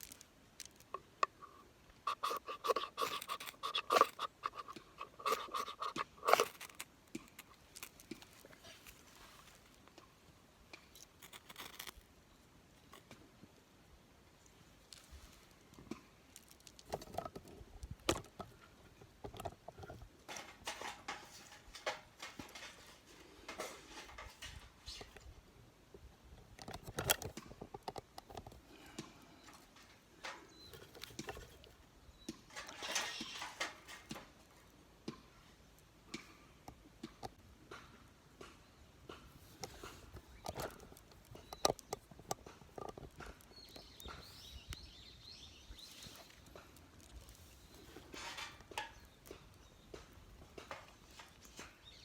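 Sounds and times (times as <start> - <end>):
small objects clicking and rustling: 0.0 - 13.3, 14.4 - 25.4, 26.3 - 37.8, 39.1 - 52.0.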